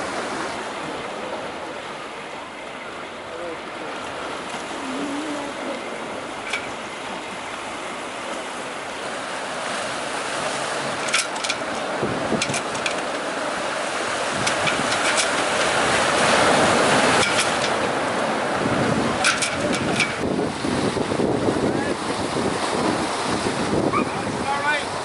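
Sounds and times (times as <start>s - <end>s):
surf breaking on rocks: 4.0s - 25.0s.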